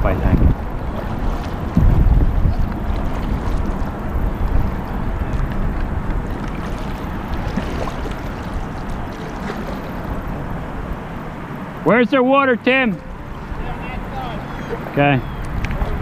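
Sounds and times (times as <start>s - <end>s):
wind buffeting microphone: 0.0s - 11.8s, 13.0s - 16.0s
river water rushing: 0.0s - 16.0s.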